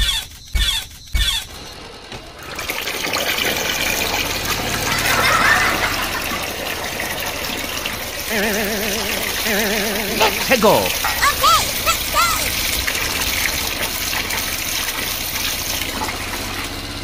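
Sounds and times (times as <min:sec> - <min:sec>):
water gushing and splashing: 0:02.4 - 0:17.0.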